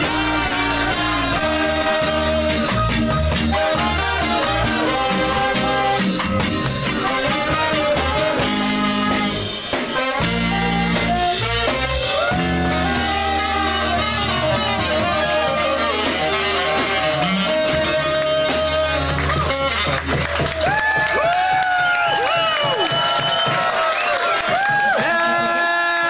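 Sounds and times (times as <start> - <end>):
horn section playing melody: 0.0 - 22.6
band playing live: 0.0 - 26.0.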